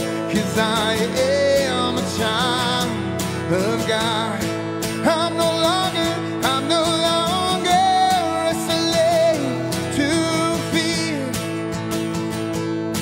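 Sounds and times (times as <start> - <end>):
man singing: 0.0 - 11.8
strummed acoustic guitar: 0.0 - 13.0.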